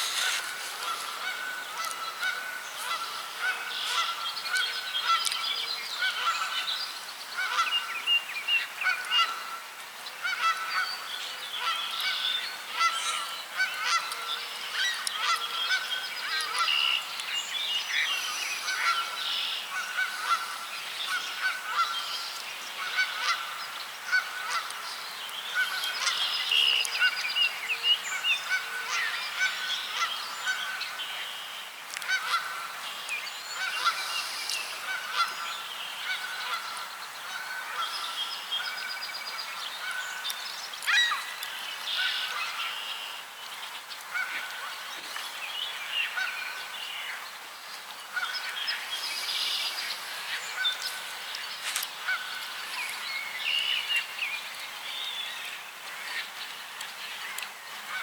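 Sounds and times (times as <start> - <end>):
birds chorus: 0.0 - 9.4, 10.1 - 58.0.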